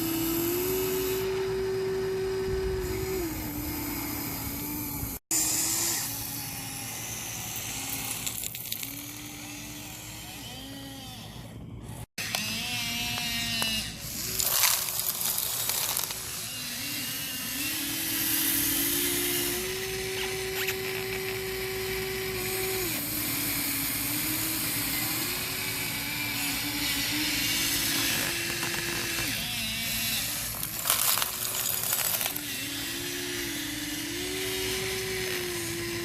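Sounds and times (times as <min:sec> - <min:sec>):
small electric motors whining: 0:00.0 - 0:36.0.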